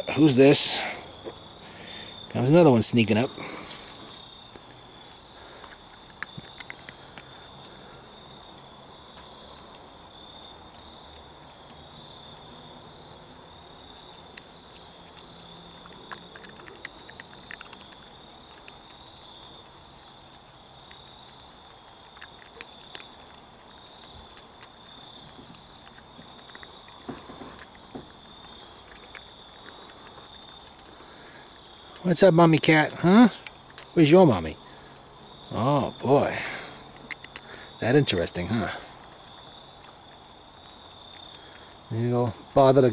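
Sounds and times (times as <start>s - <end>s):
crickets trilling: 0.0s - 42.9s
faint low hum: 0.0s - 42.9s.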